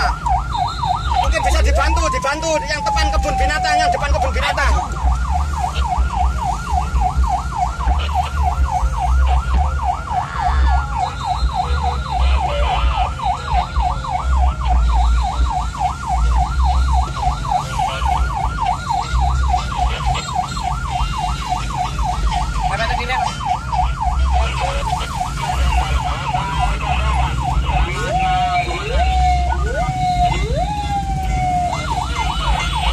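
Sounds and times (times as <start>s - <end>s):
ambulance siren yelping: 0.0s - 32.9s
engine and road rumble: 0.0s - 32.9s.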